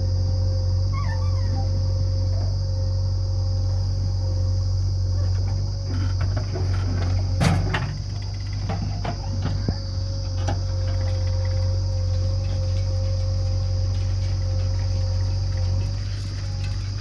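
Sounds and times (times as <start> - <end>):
diesel engine rumbling: 0.0 - 17.0
high-pitched whine: 0.0 - 17.0.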